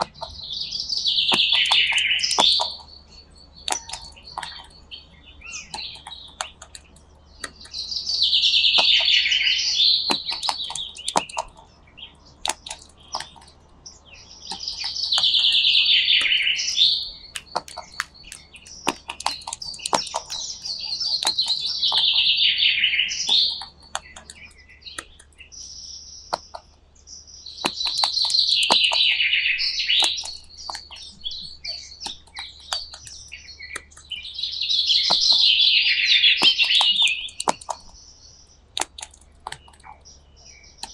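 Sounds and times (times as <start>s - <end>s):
sharp clicks: 0.0s - 4.9s, 5.5s - 22.4s, 23.1s - 25.6s, 26.3s - 26.7s, 27.6s - 38.0s, 38.7s - 40.1s
bird chirping phrase: 0.0s - 40.9s.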